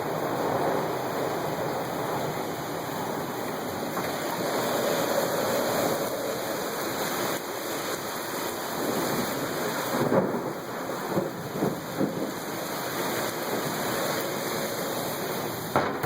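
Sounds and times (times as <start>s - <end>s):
heavy rain: 0.0s - 16.0s
squally wind: 0.0s - 16.0s.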